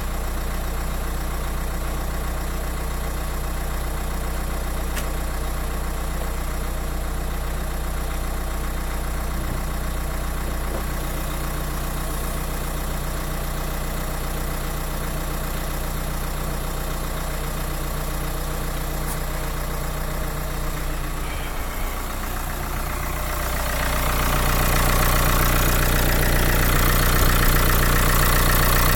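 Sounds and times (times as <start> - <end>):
car engine and drivetrain running: 0.0 - 28.9.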